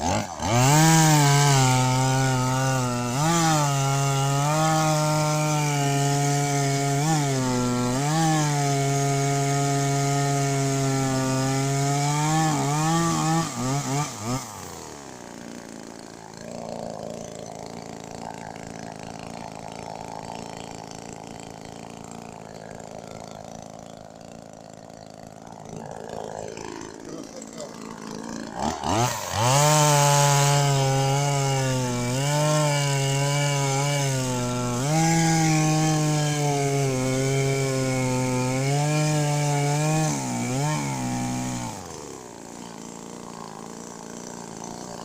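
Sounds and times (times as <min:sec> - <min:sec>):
chainsaw cutting wood: 0:00.0 - 0:45.0.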